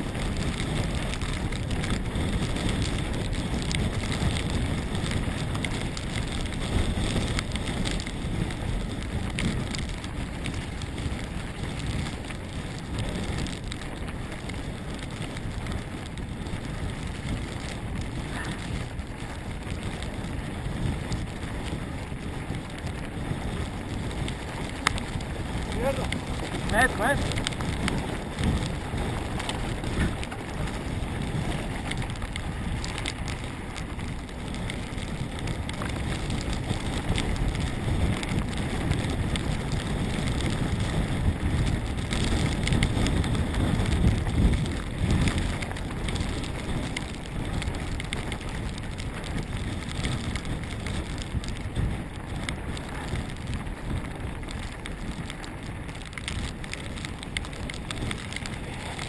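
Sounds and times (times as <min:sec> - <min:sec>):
bike rattling and knocking: 0:00.0 - 0:59.0
wind rush on microphone: 0:00.0 - 0:59.0.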